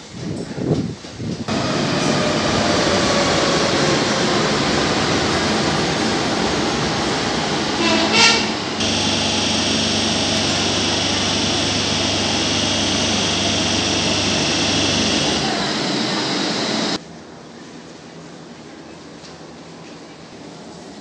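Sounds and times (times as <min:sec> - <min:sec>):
train equipment hum and hiss: 0:00.0 - 0:21.0
train pulling in slowly: 0:00.0 - 0:21.0.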